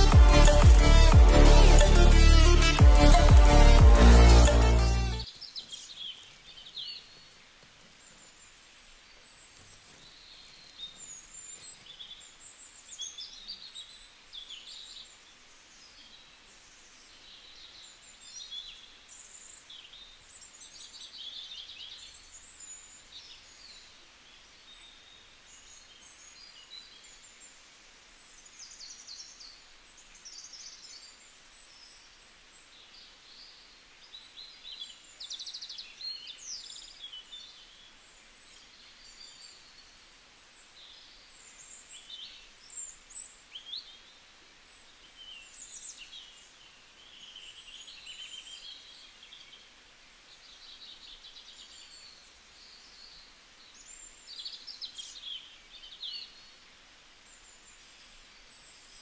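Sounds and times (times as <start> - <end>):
birds chirping: 0.0 - 49.7
low background hiss: 0.0 - 59.0.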